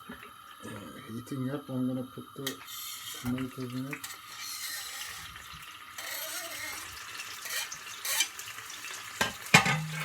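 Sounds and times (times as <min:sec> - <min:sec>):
tomatoes sizzling in oil: 0:00.0 - 0:10.0.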